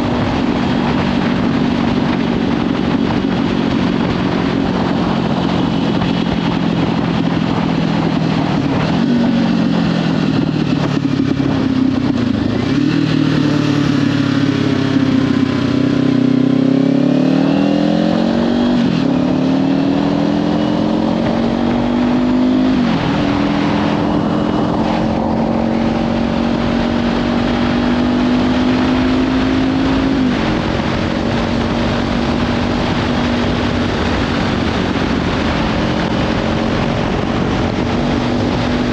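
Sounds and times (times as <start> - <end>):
motorcycle engine accelerating: 0.0 - 38.9
wind noise on microphone: 0.0 - 38.9.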